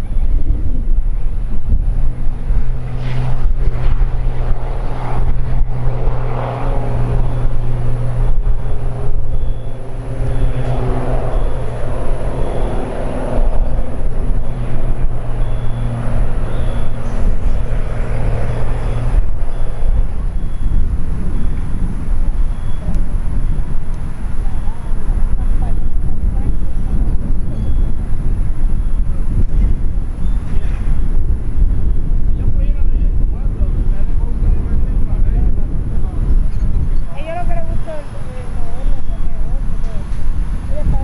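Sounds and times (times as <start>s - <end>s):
engine running loudly: 0.0s - 41.0s.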